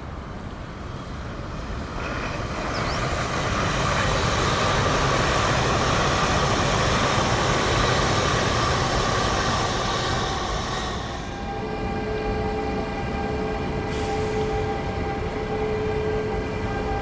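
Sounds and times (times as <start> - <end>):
train wheels on rails: 0.1 - 17.0.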